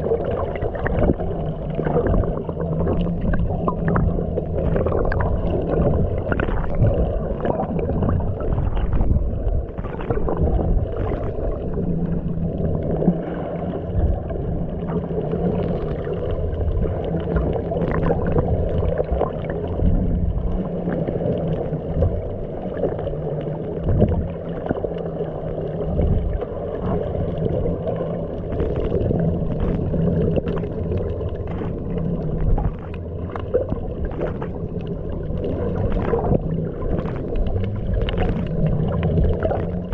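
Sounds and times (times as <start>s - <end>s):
underwater water wash: 0.0s - 39.9s.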